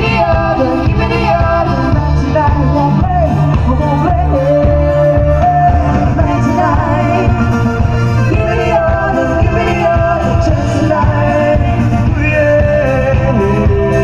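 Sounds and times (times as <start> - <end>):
live band music over pa: 0.0 - 14.0
person singing: 0.0 - 14.0.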